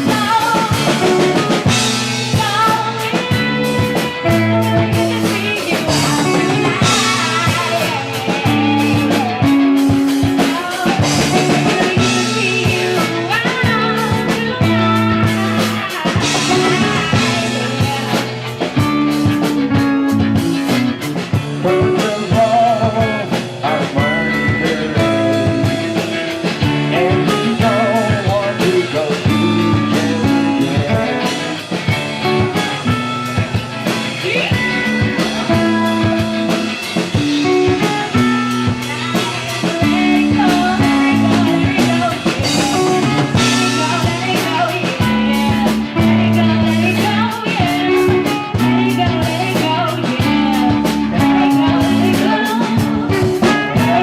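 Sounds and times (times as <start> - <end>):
band playing rock blues: 0.0 - 54.0
person singing: 0.0 - 54.0.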